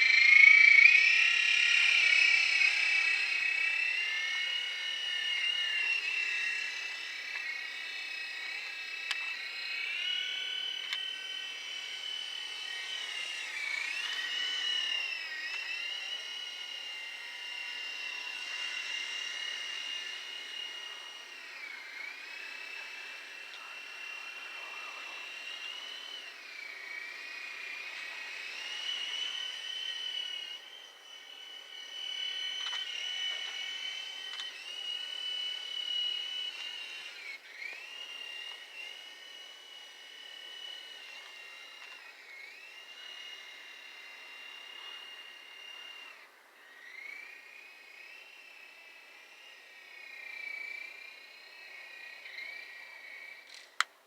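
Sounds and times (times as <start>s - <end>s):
toy helicopter rotor whining: 0.0s - 54.0s.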